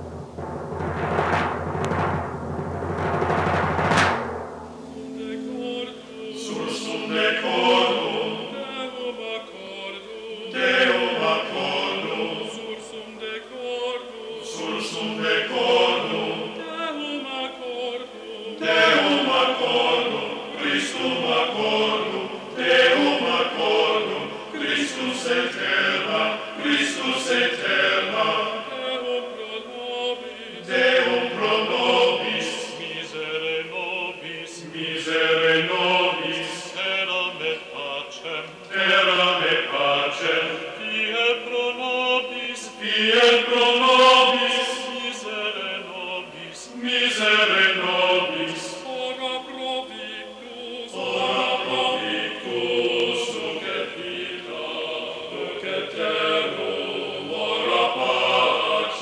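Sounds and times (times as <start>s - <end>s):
choir chanting: 4.7s - 59.0s.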